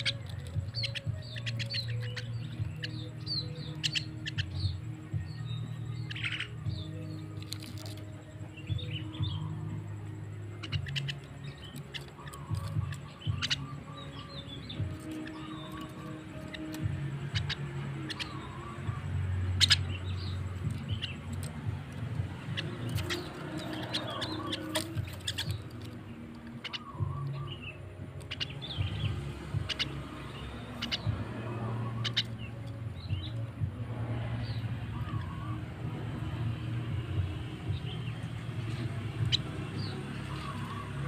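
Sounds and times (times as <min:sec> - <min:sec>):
bird chirps whistles and clicks: 0:00.0 - 0:09.8, 0:10.6 - 0:33.6, 0:37.2 - 0:41.0.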